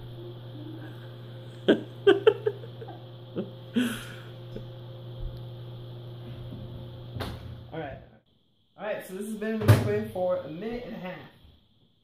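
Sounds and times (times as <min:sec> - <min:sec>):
microwave oven humming: 0:00.0 - 0:11.8.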